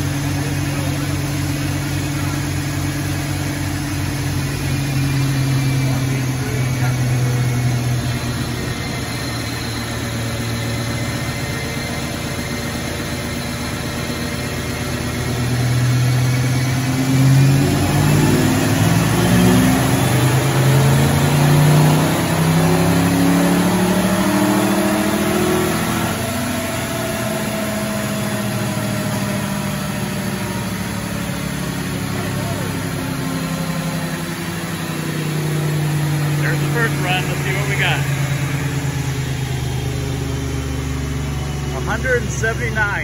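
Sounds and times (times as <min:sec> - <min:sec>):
car engine revving on dyno: 0:00.0 - 0:43.0.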